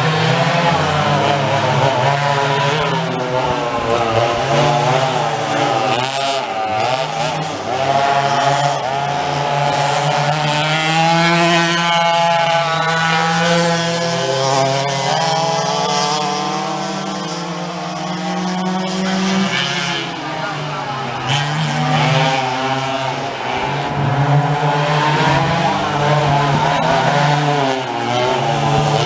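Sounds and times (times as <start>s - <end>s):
racing kart engines at high revs: 0.0s - 29.0s.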